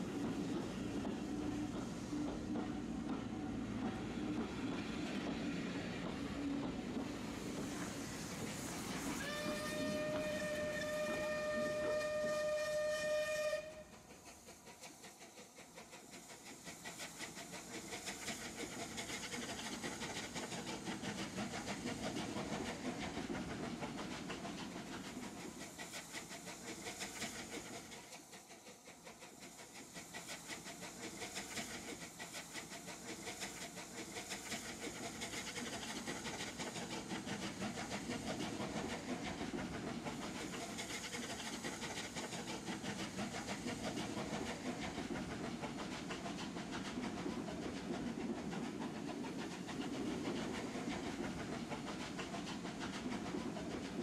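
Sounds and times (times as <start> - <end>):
steady hiss of steam: 0.0 - 54.0
steam locomotive exhaust beats: 0.0 - 54.0.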